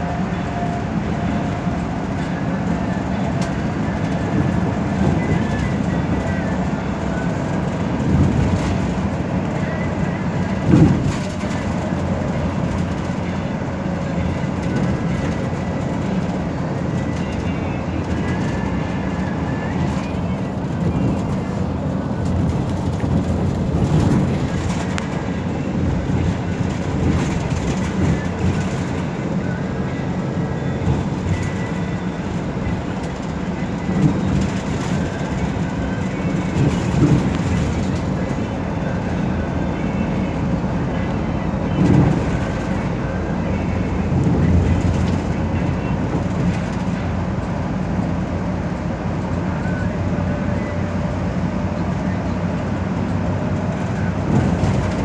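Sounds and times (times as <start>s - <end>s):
interior rattles: 0.0s - 49.4s, 51.9s - 55.0s
bus engine drone: 0.0s - 55.0s
road rumble: 0.0s - 55.0s.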